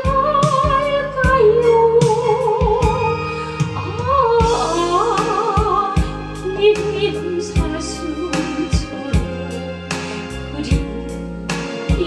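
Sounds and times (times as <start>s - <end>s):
band backing with drum beat: 0.0s - 6.2s, 8.4s - 12.0s
woman singing a ballad: 0.0s - 12.0s.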